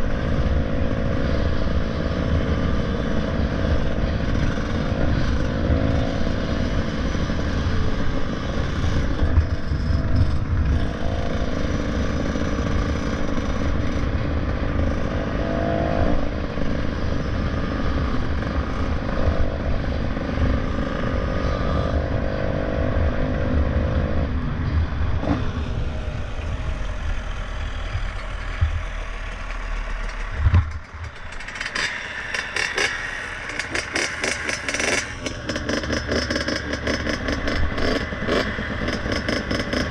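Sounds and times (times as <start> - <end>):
low wind rumble: 0.0 - 39.9
motorcycle engine: 0.0 - 39.9.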